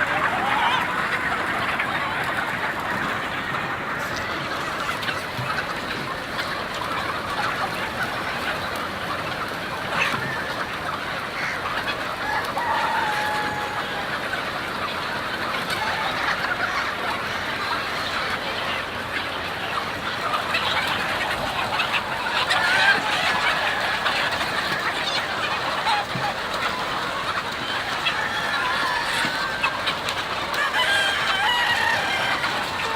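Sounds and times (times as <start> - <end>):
long chicken calls: 0.0 - 5.7, 9.8 - 18.4, 19.2 - 32.9
chickens clucking: 0.0 - 32.9.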